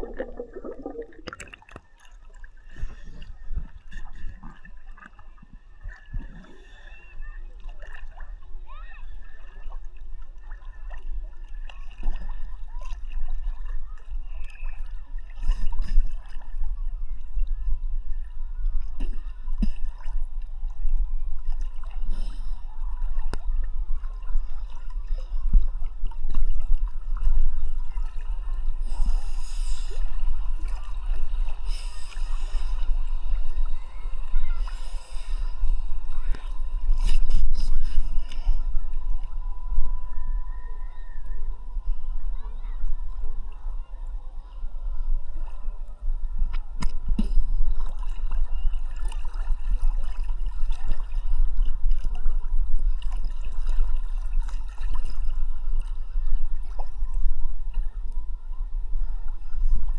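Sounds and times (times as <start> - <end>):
water splashes: 0.0 - 17.4, 18.8 - 39.9, 46.4 - 58.0
water sloshing and gurgling: 0.0 - 59.9.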